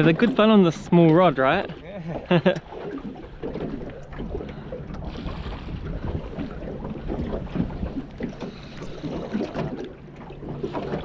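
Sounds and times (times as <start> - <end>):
water lapping against boat hull: 0.0 - 11.0
wind buffeting microphone: 0.0 - 11.0.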